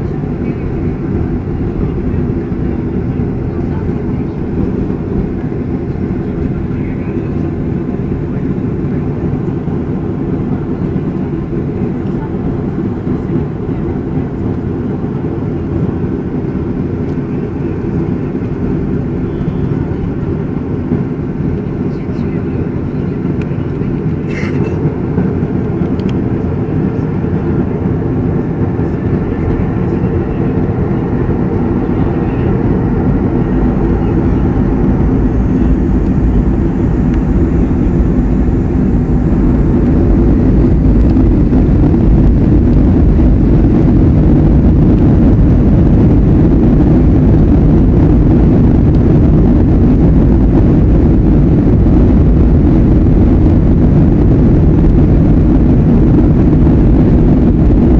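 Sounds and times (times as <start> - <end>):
aircraft engines droning: 0.0 - 57.9.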